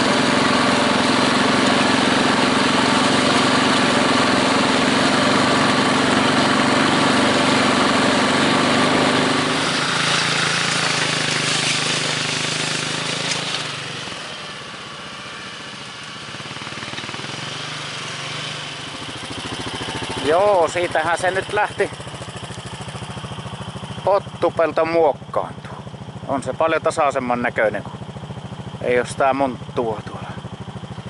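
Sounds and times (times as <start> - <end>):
machine engine running: 0.0 - 31.0.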